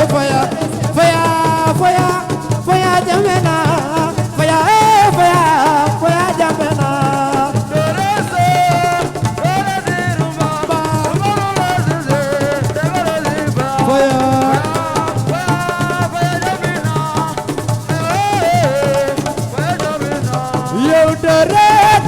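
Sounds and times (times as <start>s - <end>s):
drums and shakers: 0.0s - 22.0s.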